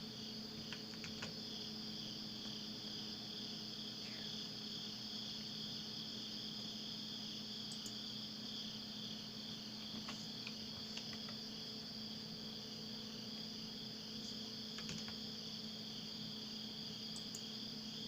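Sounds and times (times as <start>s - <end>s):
faint low hum: 0.0s - 18.0s
insects chirring: 0.0s - 18.0s.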